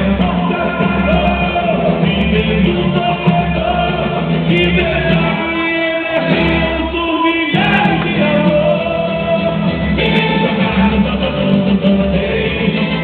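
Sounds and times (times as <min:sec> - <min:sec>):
singer with band over sound system: 0:00.0 - 0:13.0.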